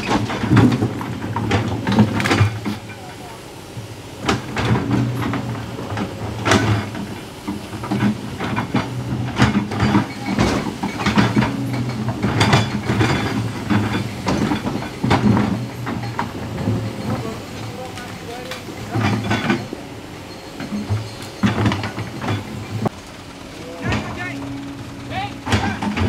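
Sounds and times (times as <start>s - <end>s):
bucket clanking against rock: 0.0s - 3.4s, 4.2s - 23.0s, 23.8s - 26.0s
excavator diesel engine droning: 0.0s - 26.0s.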